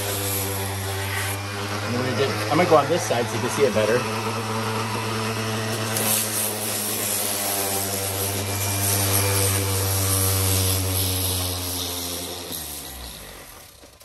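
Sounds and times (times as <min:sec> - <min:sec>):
electric sander on concrete: 0:00.0 - 0:14.0.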